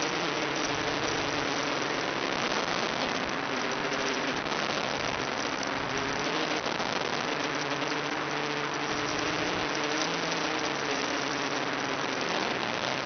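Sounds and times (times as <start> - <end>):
faint drifting tones: 0.0 - 13.0
static hiss: 0.0 - 13.0.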